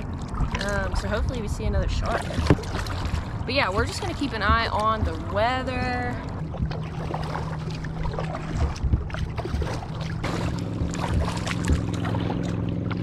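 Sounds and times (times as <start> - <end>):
paddle splashing in water: 0.0 - 13.0
steady low hum: 0.0 - 13.0
paddle knocking against hull: 2.0 - 13.0.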